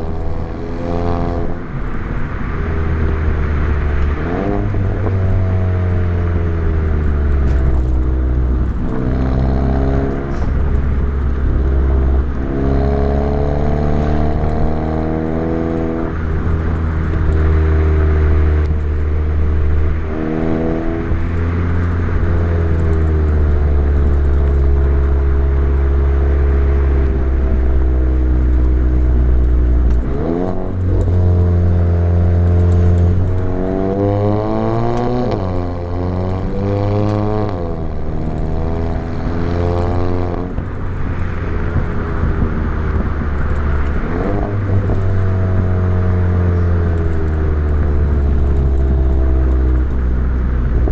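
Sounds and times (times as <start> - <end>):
turbocharged car engine and exhaust: 0.0 - 50.9.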